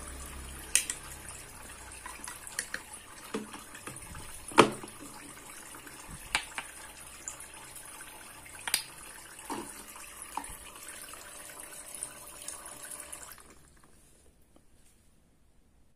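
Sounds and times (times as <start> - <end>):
water trickling into plastic sink: 0.0 - 14.0.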